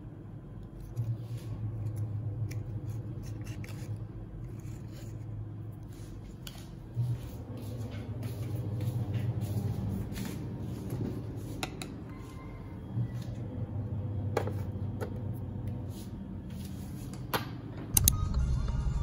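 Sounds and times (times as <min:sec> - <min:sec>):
refrigerator low hum: 0:00.0 - 0:19.0.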